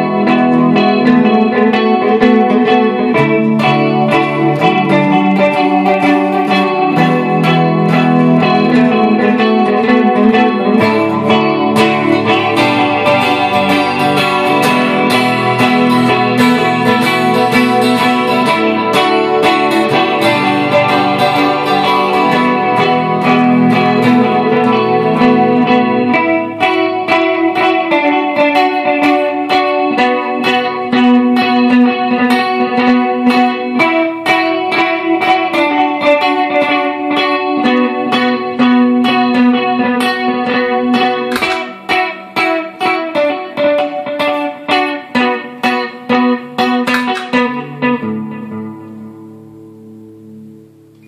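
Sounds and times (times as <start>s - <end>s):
electric guitar picked notes: 0.0s - 51.0s.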